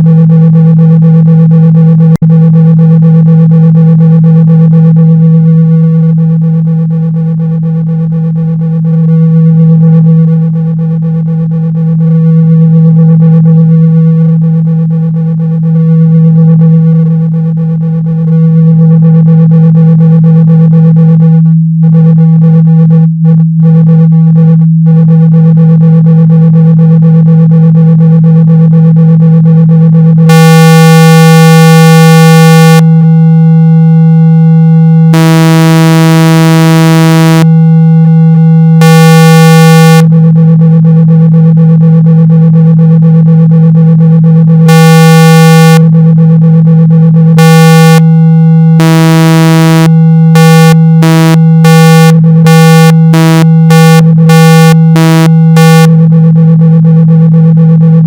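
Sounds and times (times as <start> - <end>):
low electronic tone: 0.0 - 58.0.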